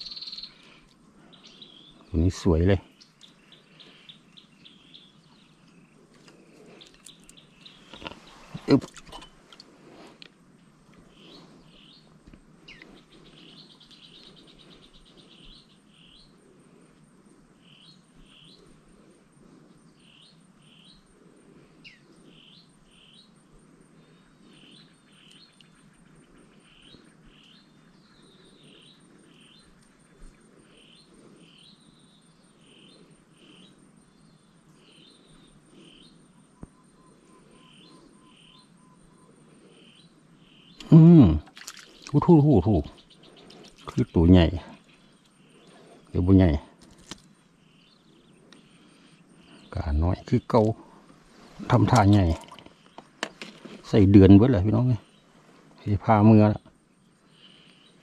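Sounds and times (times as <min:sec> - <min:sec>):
low steady background hum: 0:00.0 - 0:58.0
small birds chirping: 0:00.0 - 0:58.0.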